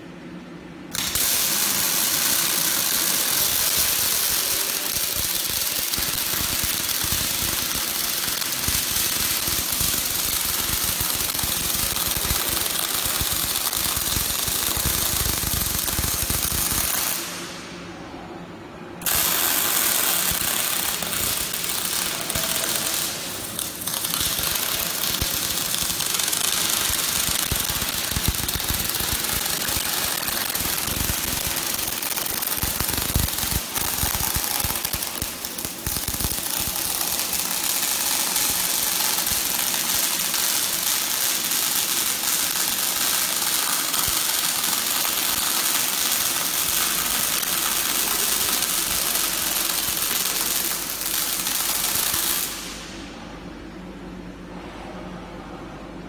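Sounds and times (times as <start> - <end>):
welding arc crackling: 0.9 - 17.7, 19.0 - 53.0.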